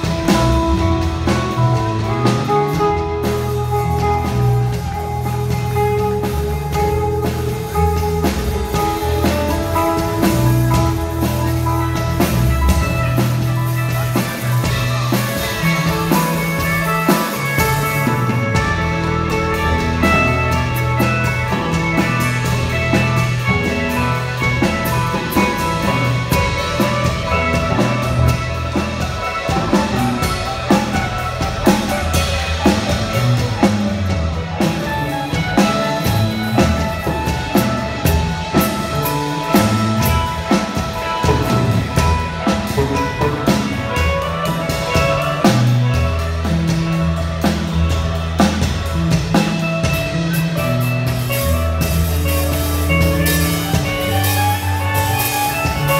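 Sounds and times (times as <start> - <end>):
bass guitar: 0.0 - 55.9
drum kit snare and cymbals: 0.0 - 55.9
electric guitar: 0.0 - 55.9.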